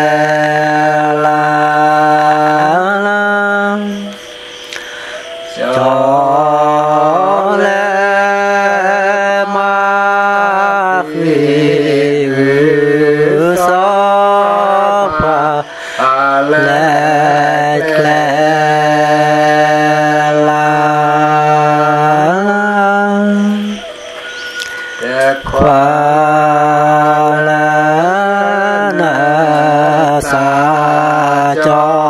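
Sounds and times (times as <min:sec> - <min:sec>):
man chanting in held notes: 0:00.0 - 0:24.0, 0:25.0 - 0:32.0.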